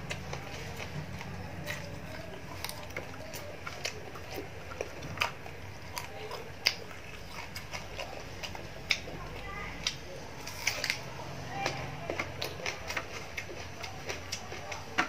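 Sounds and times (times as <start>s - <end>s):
person chewing fried fish: 0.0s - 15.0s.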